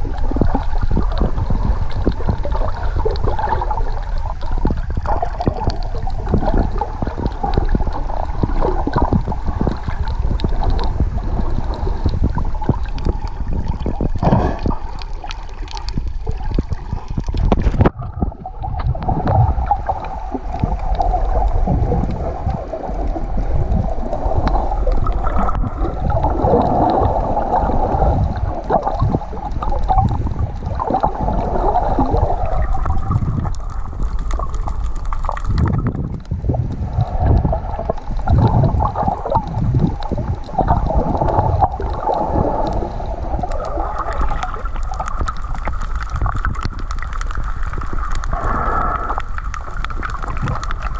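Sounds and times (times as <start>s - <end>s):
bubbling from swim strokes: 0.0s - 50.9s
underwater water rumble: 0.0s - 50.9s.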